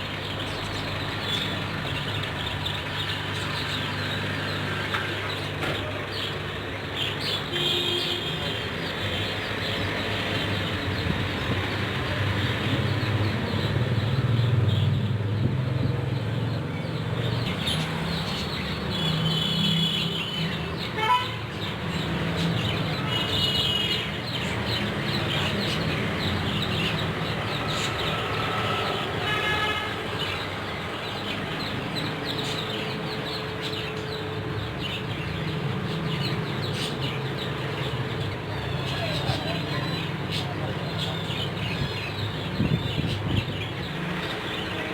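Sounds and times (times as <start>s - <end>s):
birds chirping: 0.0s - 44.9s
traffic rumble: 0.0s - 44.9s.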